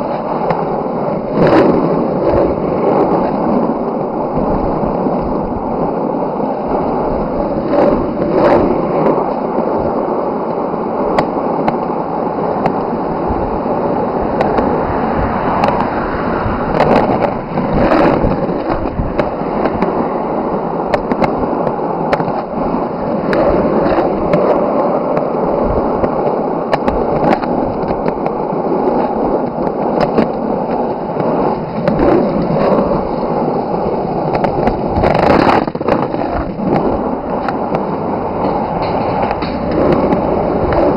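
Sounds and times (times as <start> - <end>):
skateboard wheels rolling on road: 0.0 - 40.9.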